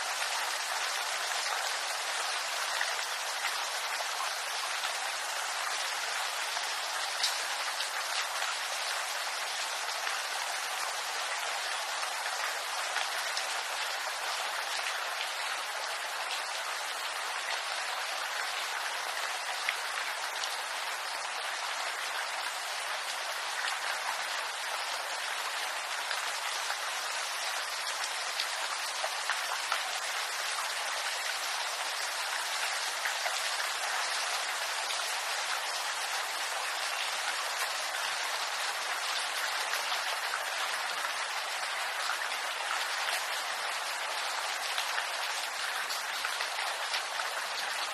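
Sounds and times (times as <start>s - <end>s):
rain pattering on leaves: 0.0s - 47.9s.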